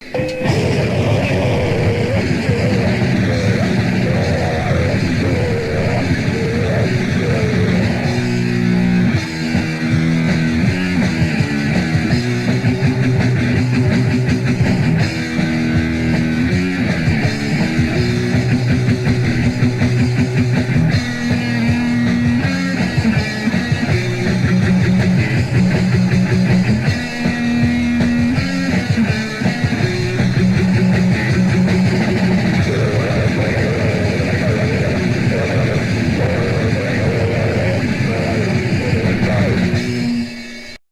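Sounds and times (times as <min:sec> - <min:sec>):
rock music with distorted guitar: 0:00.0 - 0:40.8.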